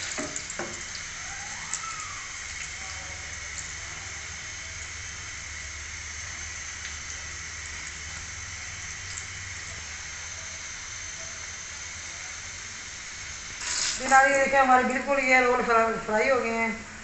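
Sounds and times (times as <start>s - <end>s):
food sizzling in oil: 0.0s - 14.5s.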